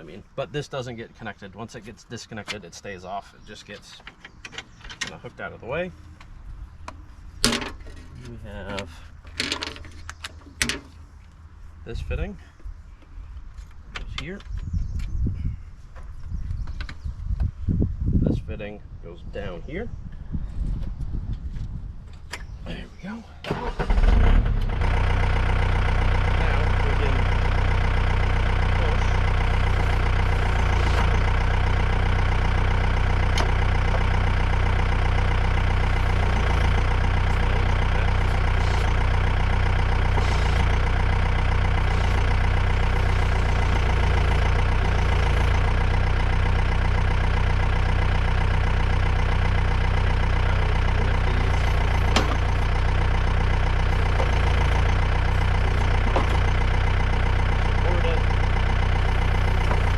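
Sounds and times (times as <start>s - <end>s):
tractor diesel engine running: 0.0s - 18.1s, 20.6s - 59.9s.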